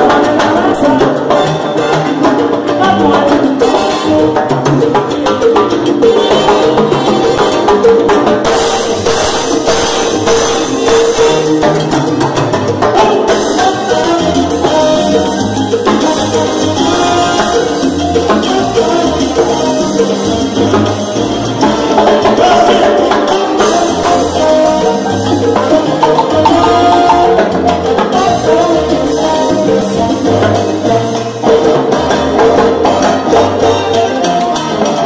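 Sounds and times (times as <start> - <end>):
trombone lines: 0.0 - 4.8, 5.8 - 12.2, 13.0 - 35.0
salsa band playing: 0.0 - 35.0.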